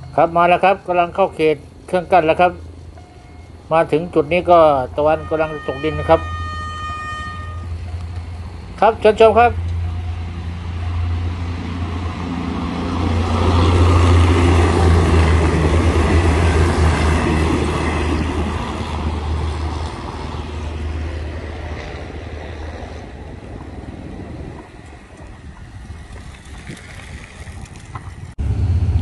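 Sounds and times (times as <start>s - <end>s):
diesel railcar passing: 0.0s - 29.0s.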